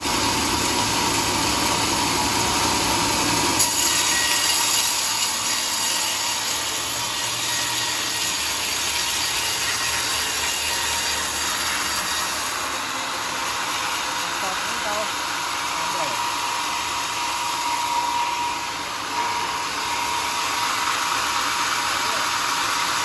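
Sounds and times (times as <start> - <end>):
sawmill cutting through log: 0.0 - 23.0.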